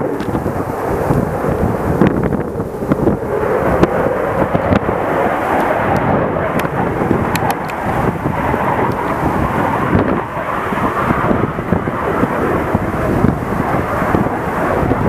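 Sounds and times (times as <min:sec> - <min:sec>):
fighter jet engine roaring: 0:00.0 - 0:15.0.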